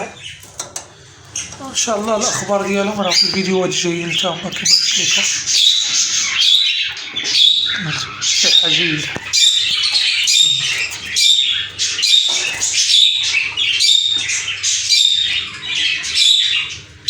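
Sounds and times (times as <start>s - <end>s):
budgerigars chattering and squawking: 0.0s - 17.0s.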